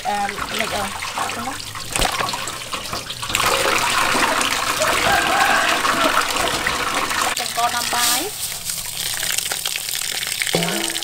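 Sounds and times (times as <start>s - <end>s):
running water splashing: 0.0s - 11.0s.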